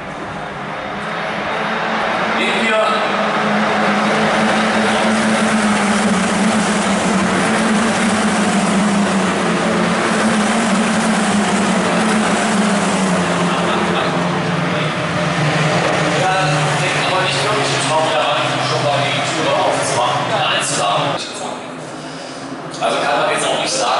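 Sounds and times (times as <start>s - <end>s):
race car engine at speed: 0.0s - 21.2s.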